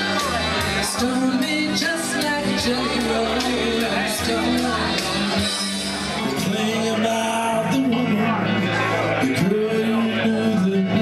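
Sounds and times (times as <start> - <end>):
karaoke backing music: 0.0 - 11.0.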